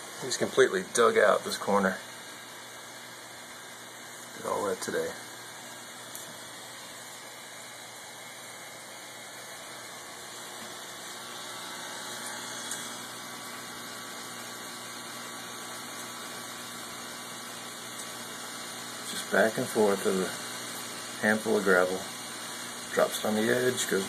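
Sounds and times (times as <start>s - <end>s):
aquarium pump hissing: 0.0s - 24.0s.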